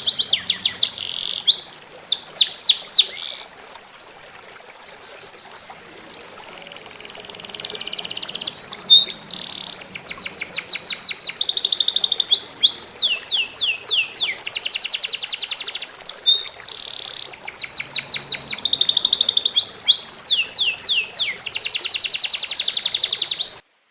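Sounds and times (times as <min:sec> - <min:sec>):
songbird singing trills: 0:00.0 - 0:03.5, 0:05.7 - 0:23.6.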